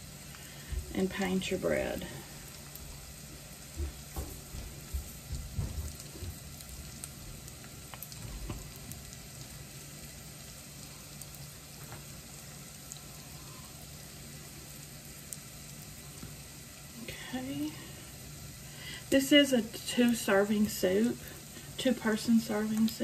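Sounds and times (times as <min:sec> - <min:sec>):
onion sizzling in a pan: 0:00.0 - 0:23.0.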